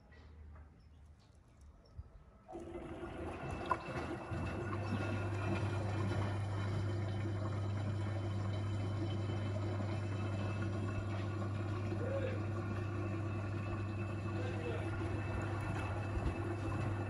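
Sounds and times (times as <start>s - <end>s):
steady low hum: 2.5s - 17.0s
water sloshing in washing machine: 2.5s - 17.0s.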